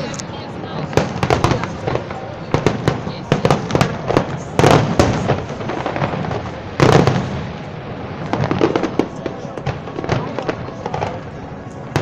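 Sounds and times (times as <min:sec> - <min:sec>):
firework pops and crackles: 0:00.0 - 0:12.0.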